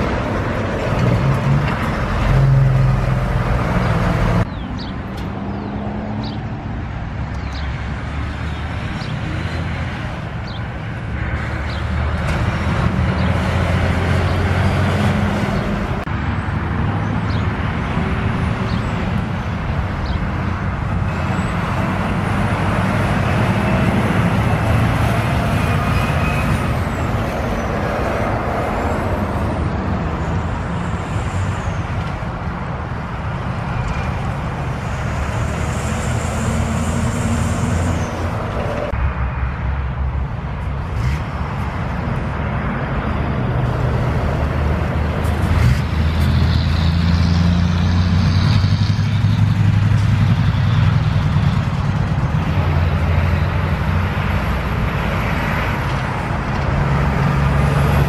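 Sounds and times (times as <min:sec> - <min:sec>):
trucks driving past: 0:00.0 - 0:58.0.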